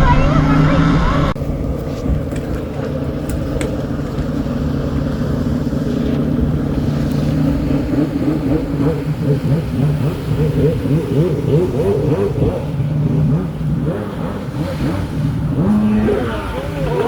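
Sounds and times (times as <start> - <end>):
vehicle engine running and revving: 0.0 - 17.0.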